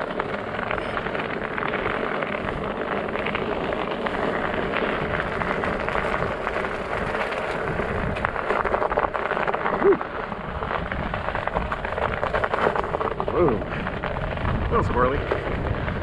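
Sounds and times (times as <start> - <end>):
studded tires crackling on snow: 0.0 - 16.0.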